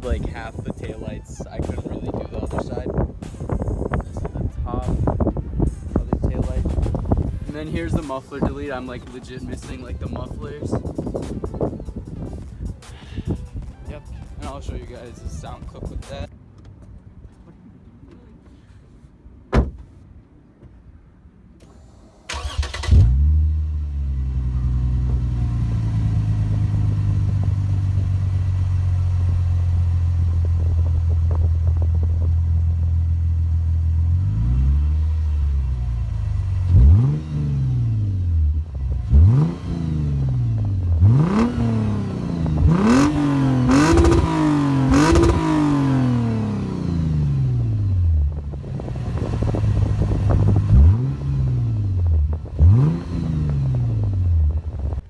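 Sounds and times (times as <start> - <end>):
loud car engine idling and revving: 0.0 - 13.4, 22.3 - 55.0
car engine starting: 0.0 - 16.3, 21.4 - 55.0.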